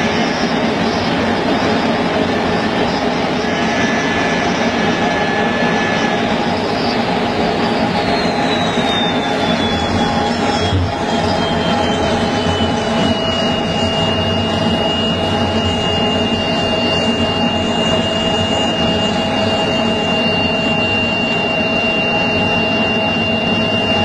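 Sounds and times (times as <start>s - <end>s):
high jet engine whine: 0.0s - 24.0s
jet engines roaring: 0.0s - 24.0s.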